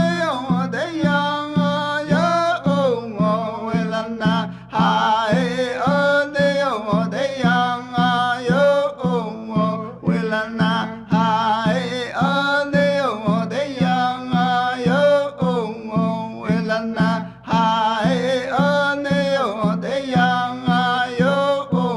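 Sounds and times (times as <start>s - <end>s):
person singing with gliding notes: 0.0s - 21.9s.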